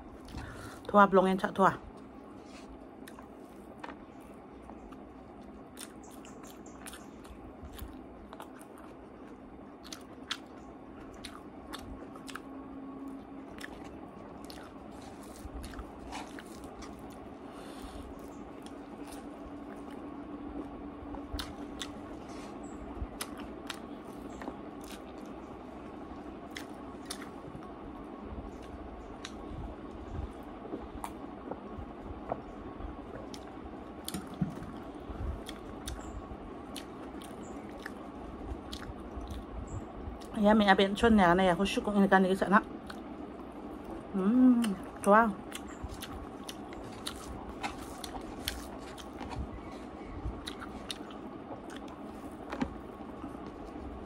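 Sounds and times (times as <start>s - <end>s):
person chewing food: 2.0s - 39.6s, 42.8s - 54.0s.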